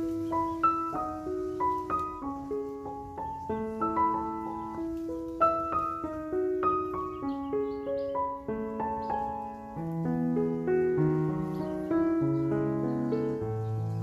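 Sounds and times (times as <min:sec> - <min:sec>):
slow instrumental melody: 0:00.0 - 0:14.0.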